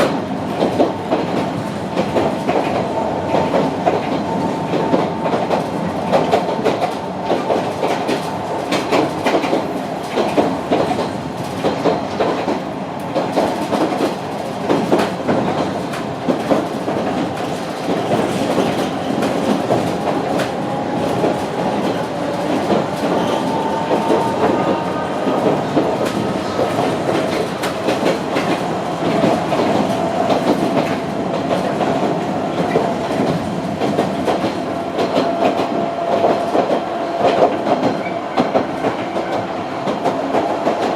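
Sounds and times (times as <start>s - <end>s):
train car rumbling: 0.0s - 40.9s.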